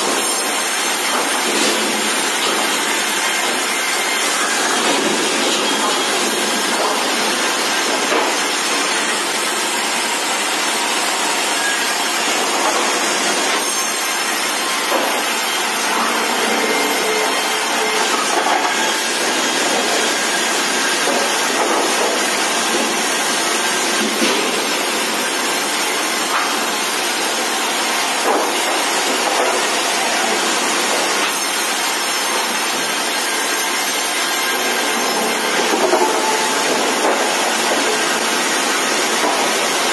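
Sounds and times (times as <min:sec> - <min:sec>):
saw cutting timber: 0:00.0 - 0:39.9.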